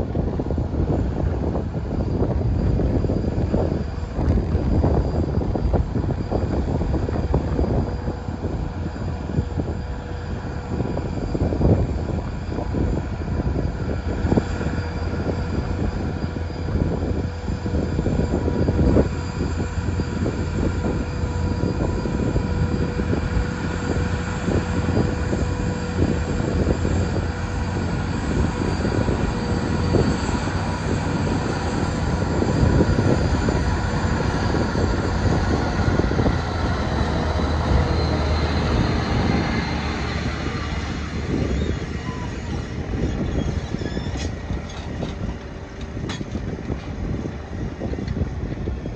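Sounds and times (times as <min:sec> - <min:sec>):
tractor diesel engine running: 0:00.0 - 0:48.8.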